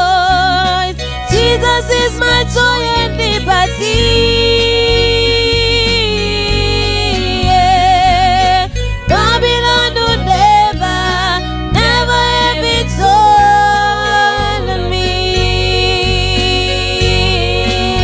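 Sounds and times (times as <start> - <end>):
bass guitar: 0.0 - 18.0
drums: 0.0 - 18.0
woman singing with vibrato: 0.0 - 18.0.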